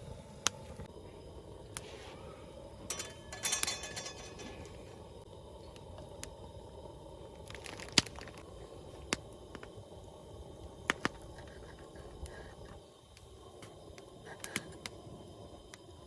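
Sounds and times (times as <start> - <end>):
wood fire crackling: 0.0 - 16.0
fire pops: 1.6 - 16.0.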